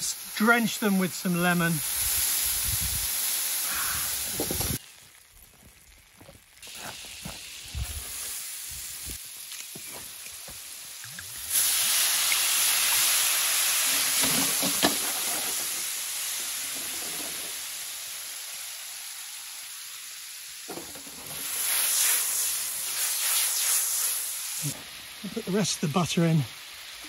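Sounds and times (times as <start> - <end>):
pan hissing and sizzling: 0.0 - 27.0.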